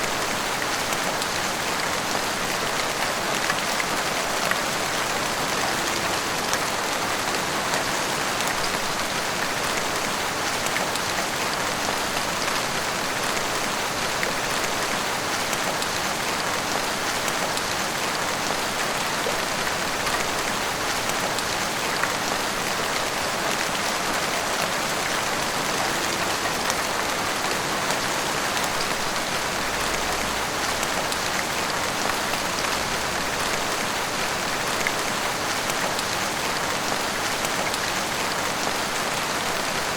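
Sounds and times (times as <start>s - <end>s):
heavy rain on street and rooftops: 0.0s - 39.9s.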